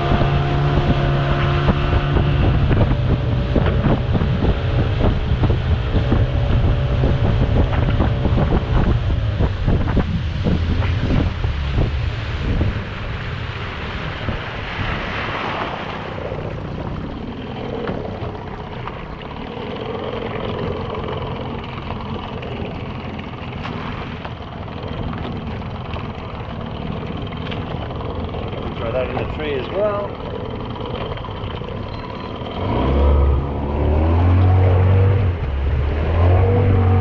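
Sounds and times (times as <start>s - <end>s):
outboard motor running: 0.0s - 37.0s
wind: 0.0s - 37.0s.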